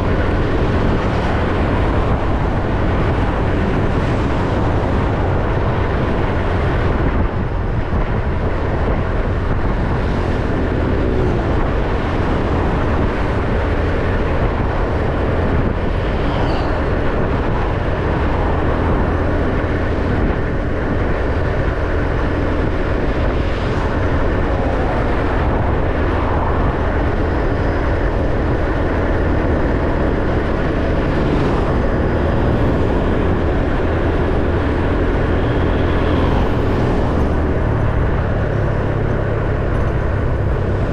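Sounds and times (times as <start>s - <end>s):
road and wind noise: 0.0s - 40.9s.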